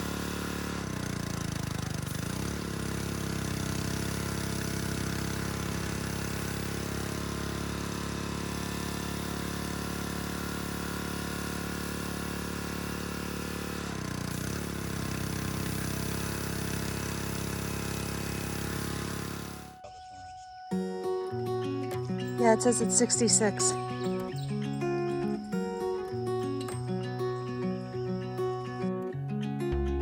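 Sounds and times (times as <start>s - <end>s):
small engine running: 0.0s - 19.8s, 20.8s - 30.0s.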